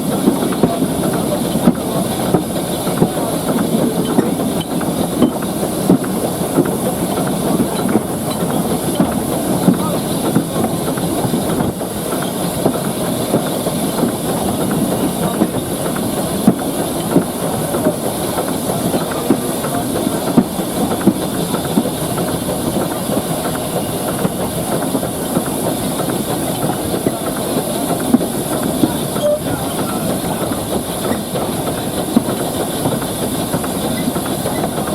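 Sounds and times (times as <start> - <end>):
locomotive clanks and knocks: 0.0 - 34.9
steam hissing: 0.0 - 34.9.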